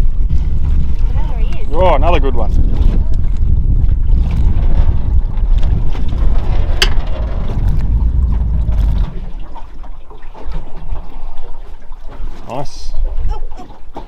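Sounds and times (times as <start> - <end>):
water splashing and trickling: 0.0 - 14.0
wind buffeting microphone: 0.0 - 14.0.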